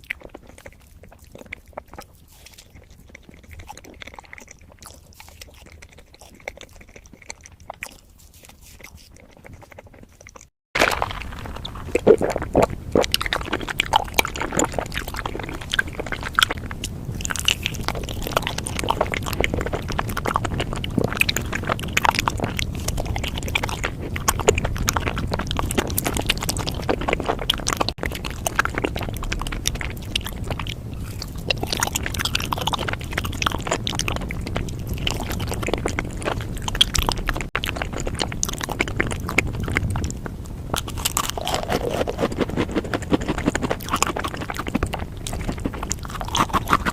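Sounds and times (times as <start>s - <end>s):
chewing with wet mouth sounds: 0.0s - 46.9s.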